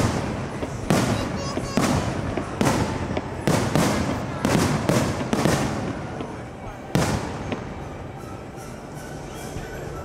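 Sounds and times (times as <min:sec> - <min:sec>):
firework bangs with rumbling echo: 0:00.0 - 0:08.1.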